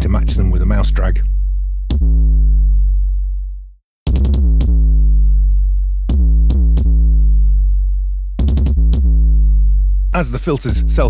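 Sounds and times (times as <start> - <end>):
synthesized kick drum boom: 0.0 - 11.0.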